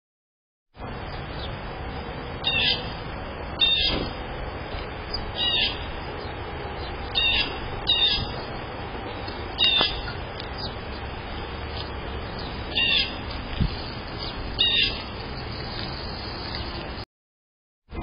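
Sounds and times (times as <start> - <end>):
sparrows chirping: 1.0 - 17.0.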